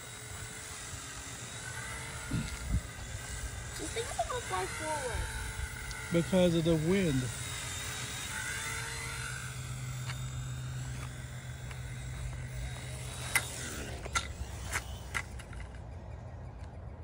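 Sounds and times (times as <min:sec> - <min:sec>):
toy helicopter motor whining: 0:00.0 - 0:17.0.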